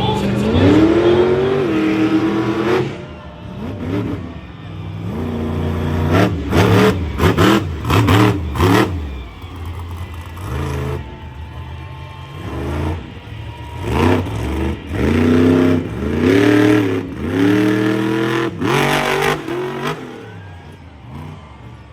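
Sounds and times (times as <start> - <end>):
truck engine revving: 0.0 - 21.9.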